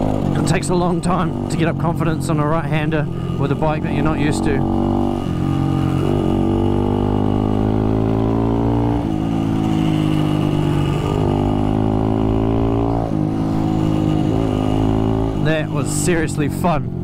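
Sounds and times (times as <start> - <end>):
two-stroke motorcycle engine running: 0.0 - 17.0.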